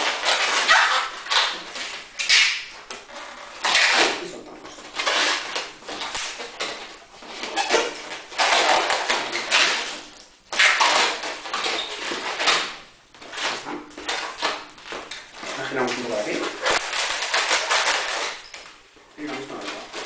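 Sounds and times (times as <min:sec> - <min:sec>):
latex balloon squeaking: 0:00.0 - 0:20.0.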